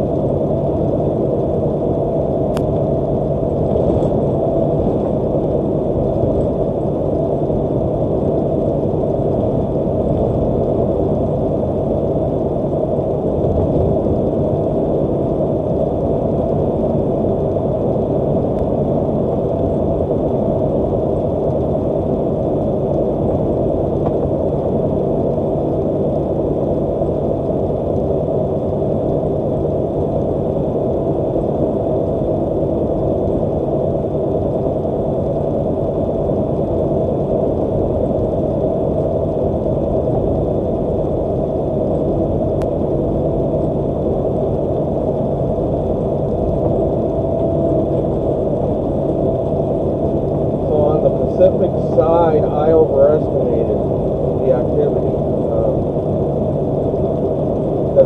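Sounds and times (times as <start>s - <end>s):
truck cab engine and road drone: 0.0s - 58.0s.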